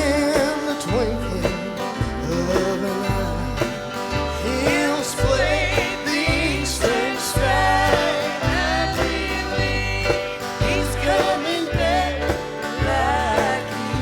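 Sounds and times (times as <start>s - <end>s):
bouncing bass line: 0.0s - 14.0s
guitar: 0.0s - 14.0s.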